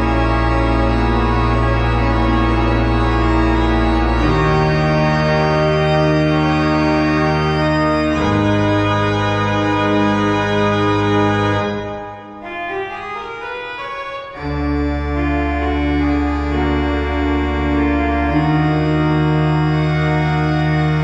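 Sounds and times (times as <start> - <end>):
organ playing full chords: 0.0 - 21.0.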